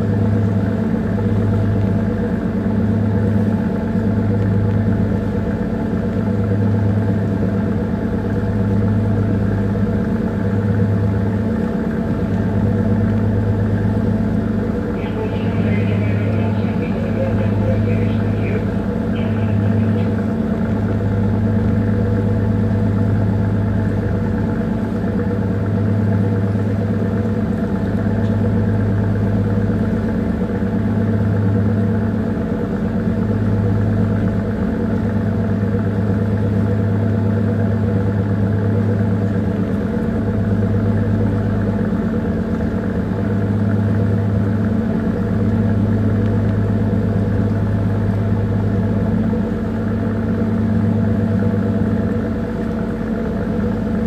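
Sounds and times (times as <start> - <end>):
ship diesel engine hum: 0.0 - 54.0.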